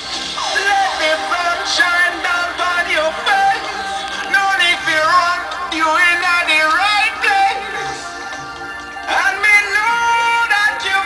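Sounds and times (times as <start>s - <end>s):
song with singing voice: 0.0s - 11.0s.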